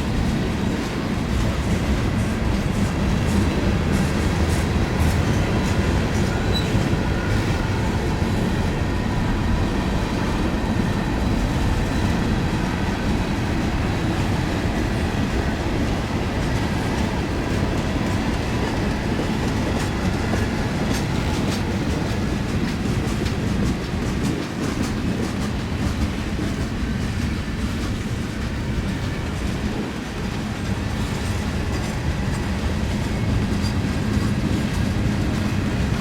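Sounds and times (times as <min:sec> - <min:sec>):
steel wheels rumbling on rail: 0:00.0 - 0:36.0.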